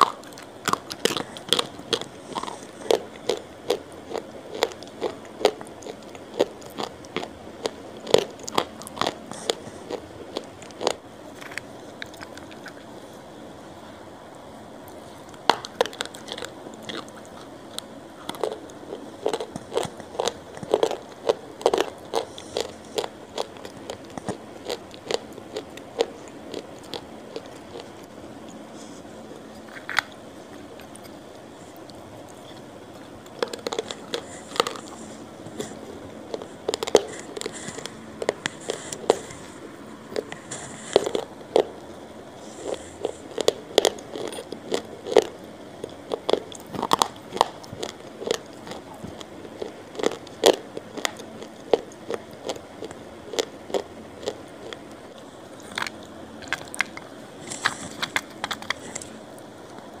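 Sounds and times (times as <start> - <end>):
person chewing crunchy food: 0.0 - 13.3, 14.8 - 60.0.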